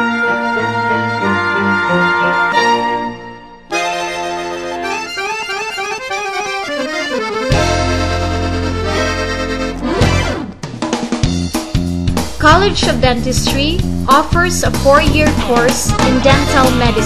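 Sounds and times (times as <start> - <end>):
background music with quick melody: 0.0 - 17.0.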